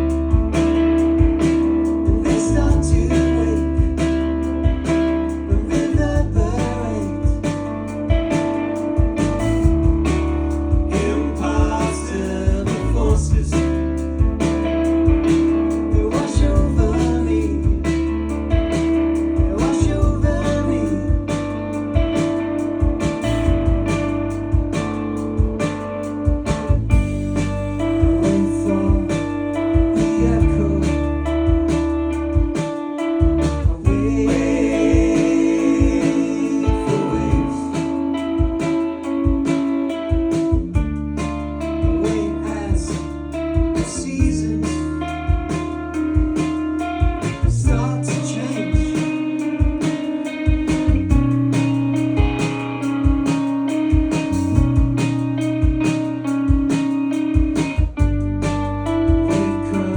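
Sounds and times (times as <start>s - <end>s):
drums keeping a steady beat: 0.0s - 59.9s
electric bass: 0.0s - 59.9s
electric guitar: 0.0s - 59.9s.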